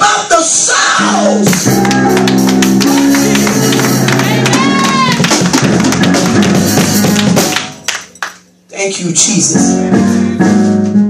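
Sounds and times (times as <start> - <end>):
church band music: 1.0 - 11.0.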